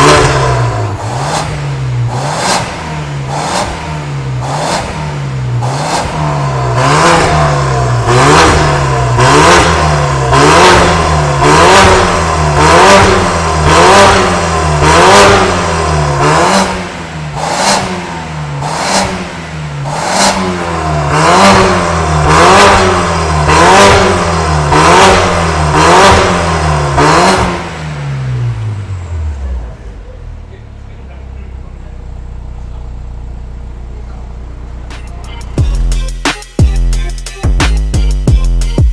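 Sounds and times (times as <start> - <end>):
turbocharged car engine revving: 0.0 - 38.9.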